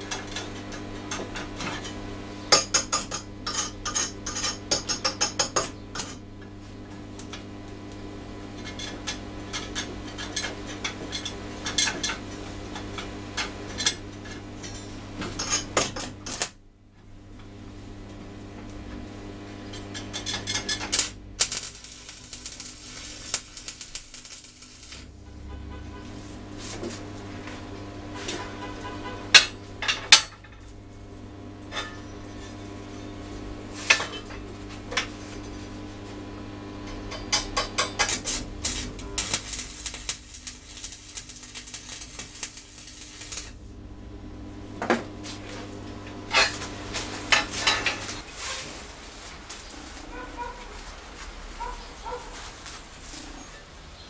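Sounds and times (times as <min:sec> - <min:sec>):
steady low hum: 0:00.0 - 0:48.3
welding arc crackling: 0:00.0 - 0:53.4.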